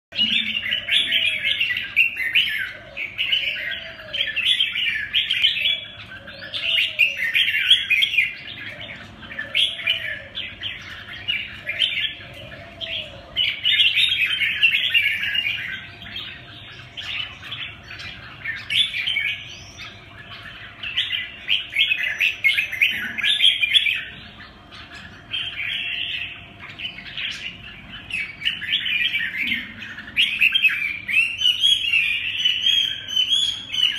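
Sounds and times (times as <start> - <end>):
bulbuls chirping: 0.1 - 33.9.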